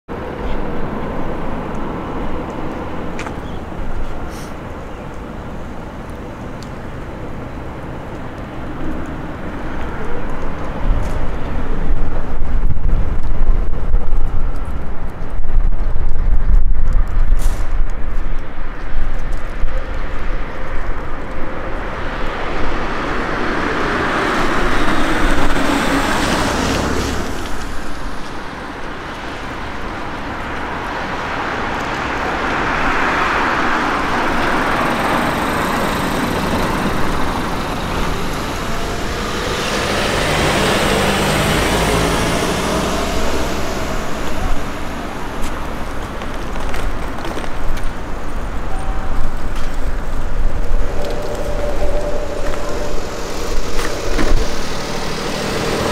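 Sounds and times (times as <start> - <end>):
cars passing by: 0.1 - 16.3, 17.0 - 55.9.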